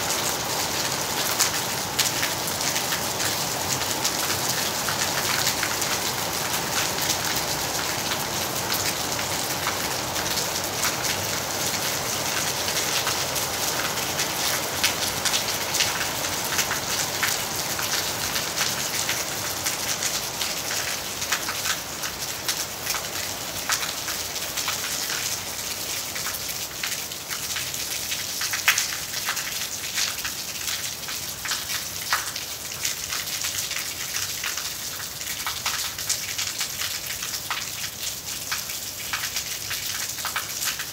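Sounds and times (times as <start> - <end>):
heavy rain on metal roof: 0.0 - 40.9.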